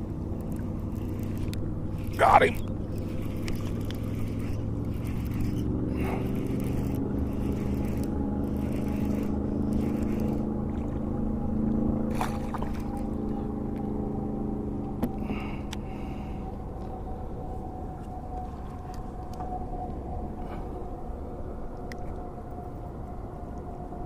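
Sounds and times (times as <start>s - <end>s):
motor droning: 0.0s - 24.0s.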